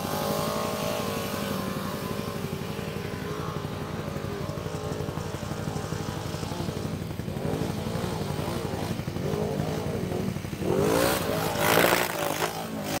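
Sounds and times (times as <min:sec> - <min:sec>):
quad engine revving: 0:00.0 - 0:13.0.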